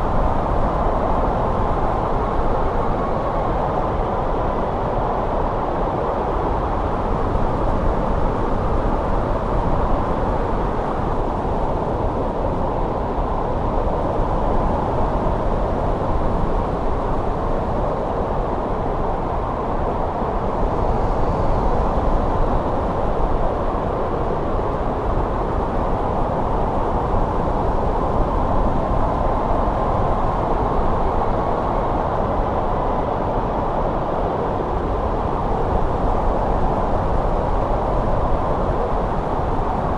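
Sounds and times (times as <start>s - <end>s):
snowstorm wind rushing: 0.0s - 39.9s.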